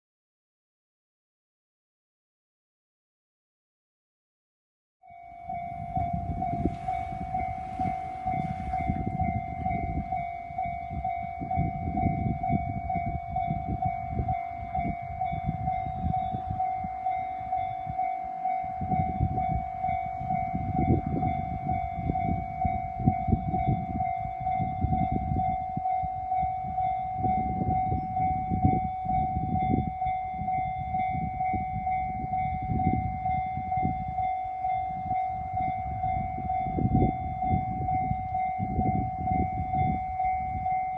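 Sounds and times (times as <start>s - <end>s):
level crossing electronic bell: 5.1s - 40.9s.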